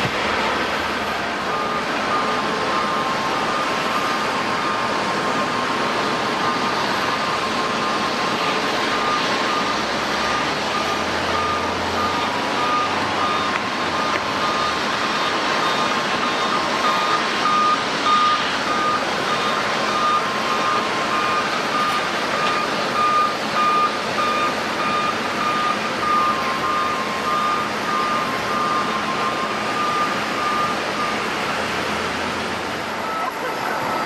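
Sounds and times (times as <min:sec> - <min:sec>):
jet engines: 0:00.0 - 0:34.0
reversing alarm beeping: 0:00.0 - 0:34.0.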